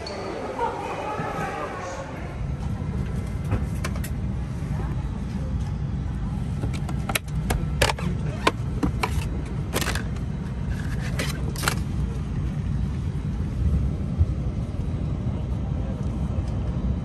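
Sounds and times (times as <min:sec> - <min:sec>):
airplane cabin rumble: 0:00.5 - 0:17.0.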